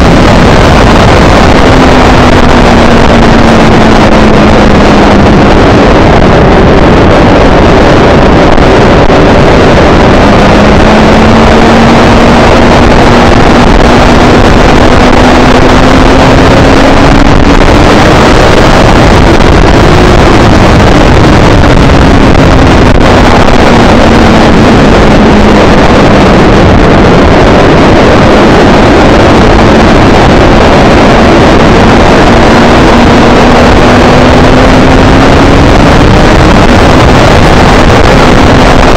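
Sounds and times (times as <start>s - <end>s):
motorcycle engine racing: 0.0s - 38.9s
wind noise on microphone: 0.0s - 38.9s.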